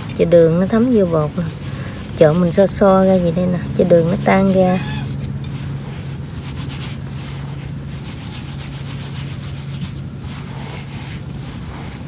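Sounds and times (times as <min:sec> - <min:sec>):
hands rubbing flour in a bowl: 0:00.0 - 0:12.0
steady low hum: 0:00.0 - 0:12.0.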